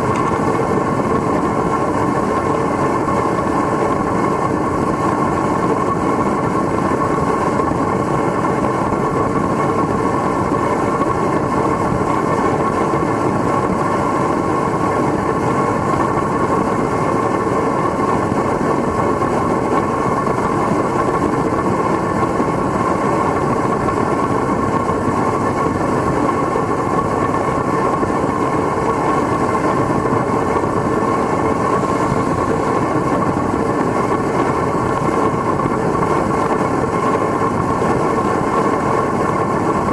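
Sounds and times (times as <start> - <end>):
burner flame roaring: 0.0 - 39.9.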